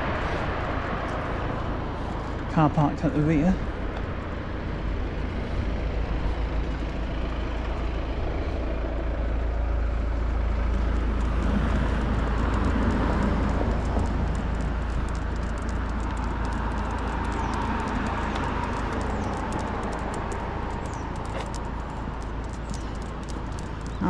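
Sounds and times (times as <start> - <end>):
low traffic rumble: 0.0 - 24.0
vehicle passing: 0.0 - 24.0.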